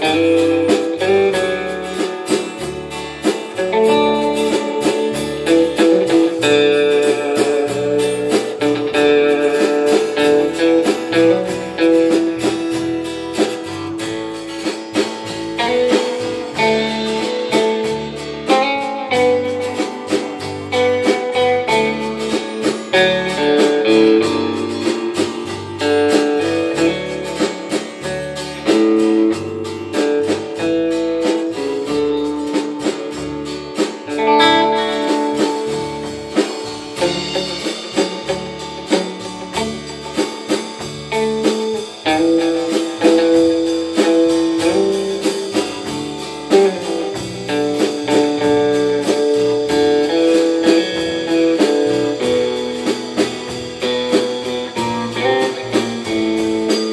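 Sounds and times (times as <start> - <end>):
bass guitar: 0.0 - 56.9
drum beat: 0.0 - 56.9
lead electric guitar melody: 0.0 - 56.9
rhythm guitar: 0.0 - 56.9.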